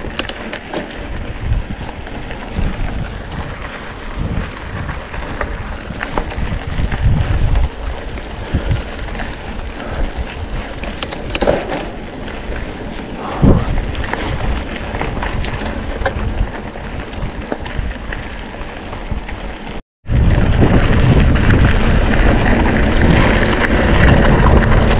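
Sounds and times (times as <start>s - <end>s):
bike rattling: 0.0s - 24.9s
bike tyres crunching on gravel: 0.0s - 24.9s
wind buffeting microphone: 0.8s - 24.9s.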